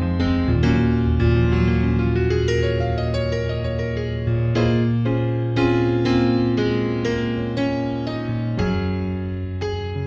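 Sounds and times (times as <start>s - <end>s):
sustained piano chords: 0.0s - 10.0s.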